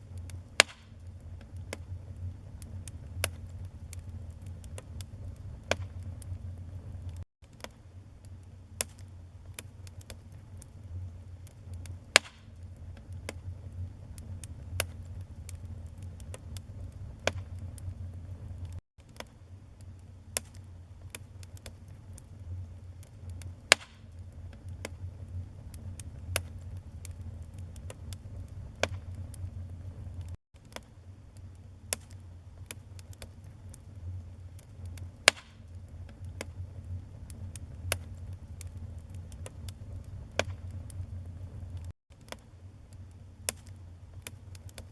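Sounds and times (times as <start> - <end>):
fire rumbling: 0.0 - 44.9
logs crackling and popping: 0.0 - 44.9.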